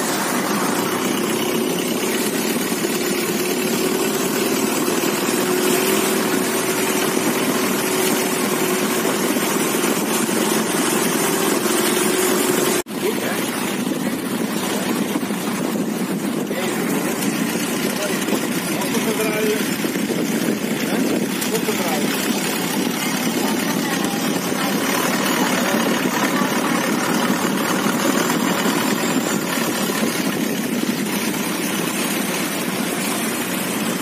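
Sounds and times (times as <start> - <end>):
motorboat engine drone: 0.0 - 34.0
rushing noise: 0.0 - 34.0.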